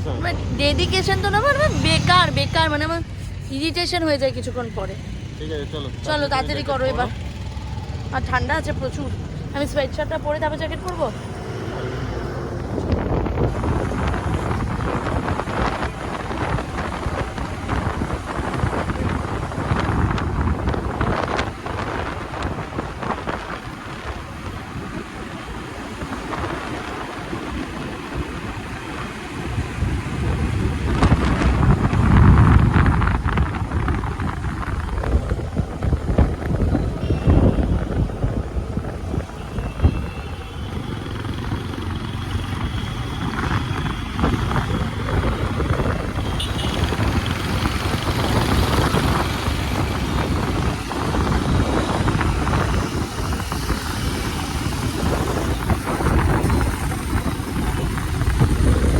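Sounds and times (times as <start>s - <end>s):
road traffic: 0.0s - 58.9s
wind buffeting microphone: 0.0s - 58.9s.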